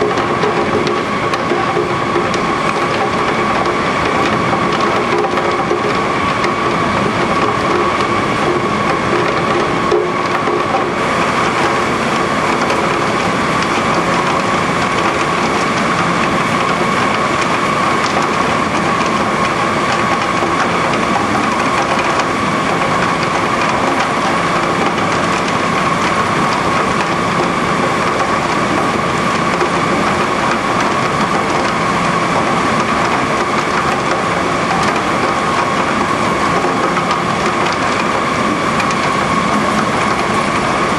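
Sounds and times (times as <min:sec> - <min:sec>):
conveyor and rollers clattering: 0:00.0 - 0:40.9.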